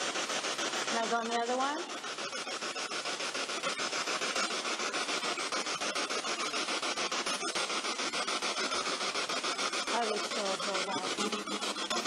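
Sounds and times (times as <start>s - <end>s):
radio static hiss: 0.0s - 12.0s
rapid radio scanning ticks: 0.0s - 12.0s.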